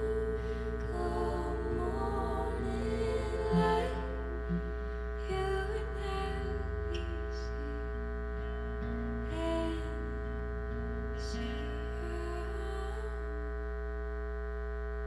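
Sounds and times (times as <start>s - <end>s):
person singing slow song: 0.0s - 13.6s
steady low hum: 0.0s - 15.0s.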